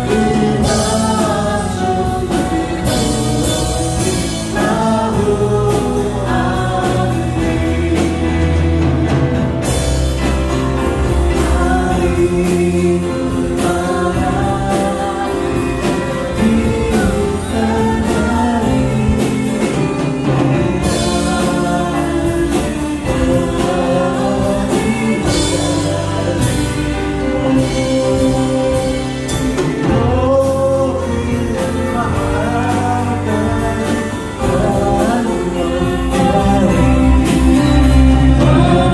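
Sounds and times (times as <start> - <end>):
group singing gospel song: 0.0 - 38.9
instrumental backing with beat: 0.0 - 38.9.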